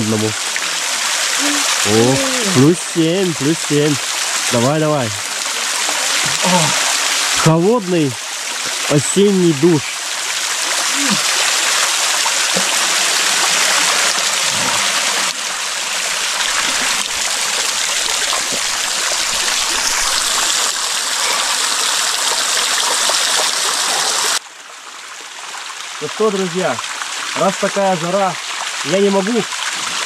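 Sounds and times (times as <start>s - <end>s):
waterfall splashing on person: 0.0s - 30.0s.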